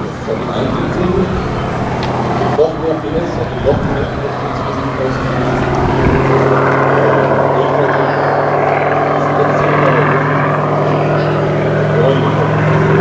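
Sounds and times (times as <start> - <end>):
model aircraft engine droning: 0.0 - 13.0.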